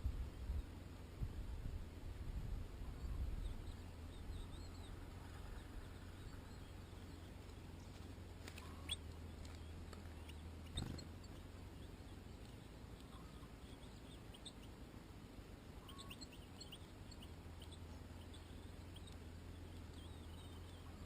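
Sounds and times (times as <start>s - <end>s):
steady low rumble: 0.0s - 21.0s
bird twittering chirps: 2.8s - 14.8s, 15.8s - 21.0s.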